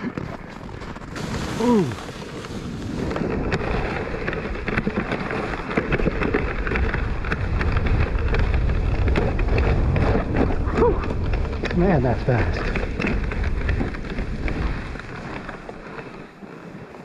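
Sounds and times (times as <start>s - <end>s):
wind buffeting microphone: 0.0s - 16.4s
sled scraping over snow: 0.0s - 17.0s.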